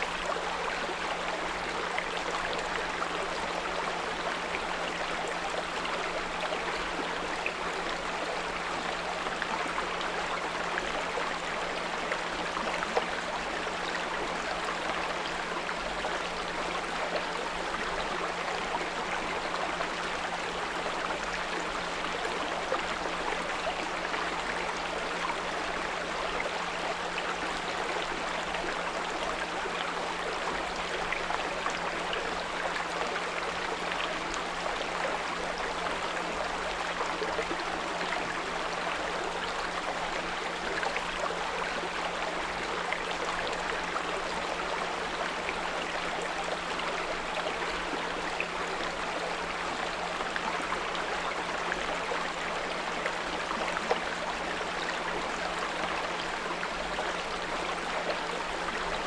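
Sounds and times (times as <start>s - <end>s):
brook trickling: 0.0s - 59.0s.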